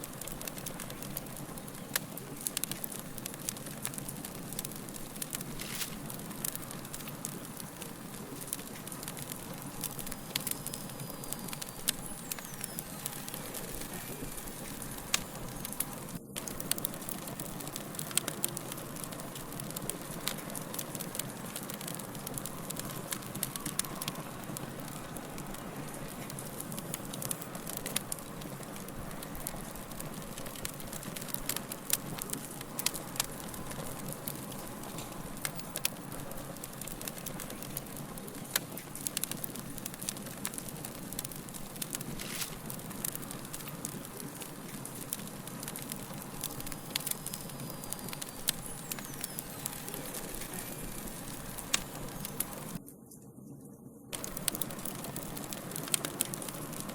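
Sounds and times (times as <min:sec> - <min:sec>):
fire crackling and popping: 0:00.0 - 0:53.3, 0:54.1 - 0:56.9.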